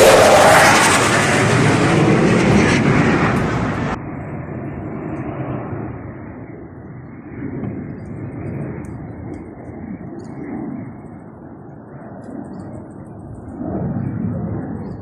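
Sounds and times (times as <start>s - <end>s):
jet engine roaring past: 0.0s - 15.0s.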